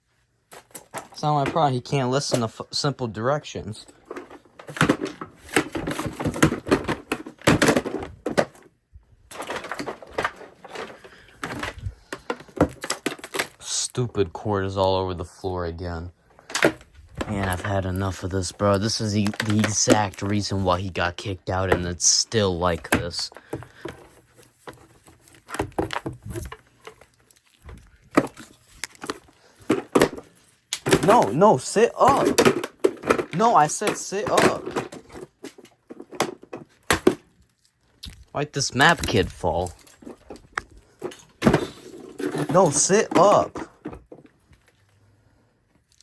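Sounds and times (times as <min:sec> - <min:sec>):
objects knocking and clattering: 0:00.5 - 0:02.6, 0:03.8 - 0:13.6, 0:16.4 - 0:44.8.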